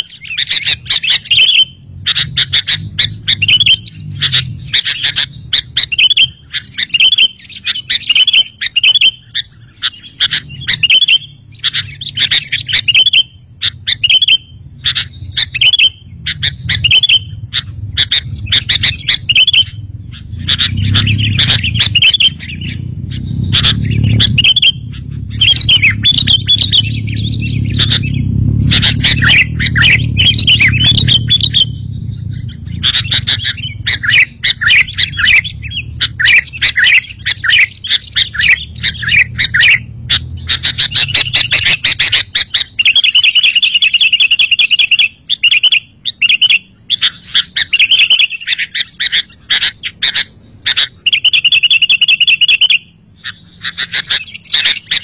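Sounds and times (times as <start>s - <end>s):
bulbul chirping: 0.0s - 55.0s
low background rumble: 0.0s - 55.0s.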